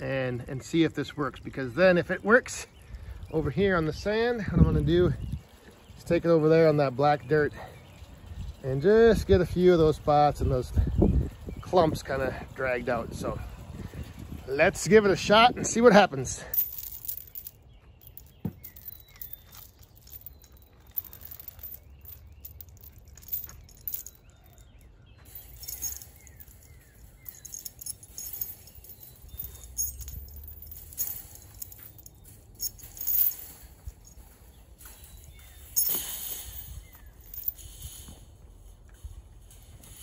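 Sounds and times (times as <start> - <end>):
steel chain clinking and rattling: 0.0 - 40.0
wire mesh rattling: 8.0 - 40.0.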